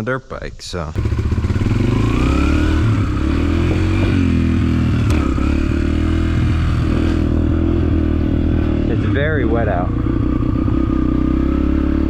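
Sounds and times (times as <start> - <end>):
dirt bike engine running: 1.0 - 12.0.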